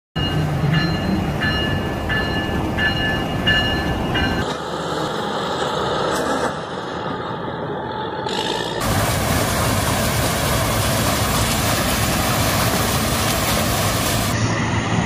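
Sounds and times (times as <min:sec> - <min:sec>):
diesel locomotive rumbling: 0:00.2 - 0:15.0
tractor and harvester engines: 0:00.2 - 0:15.0.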